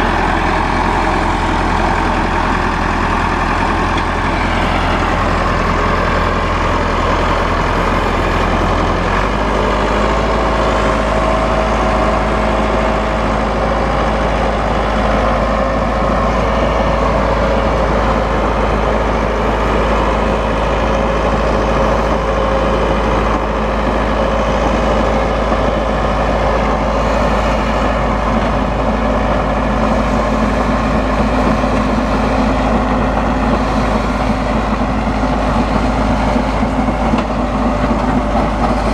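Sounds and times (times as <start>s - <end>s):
steady machine whine: 0.0s - 38.9s
tractor diesel engine running: 0.0s - 38.9s.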